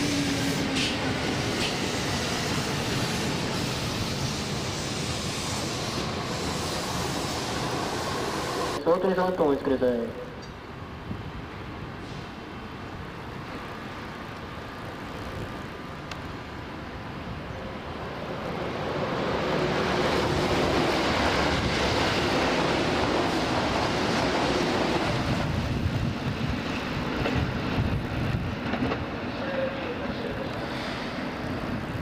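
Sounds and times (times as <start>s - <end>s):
electric train rumbling past: 0.0s - 32.0s.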